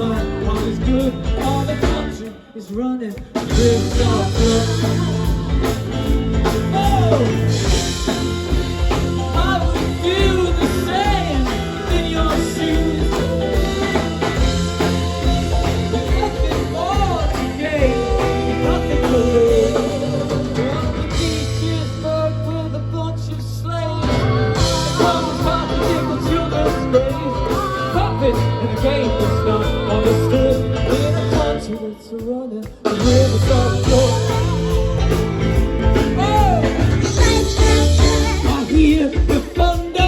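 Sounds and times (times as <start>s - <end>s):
bass guitar: 0.0s - 2.3s, 3.4s - 31.8s, 32.8s - 40.0s
drums: 0.0s - 40.0s.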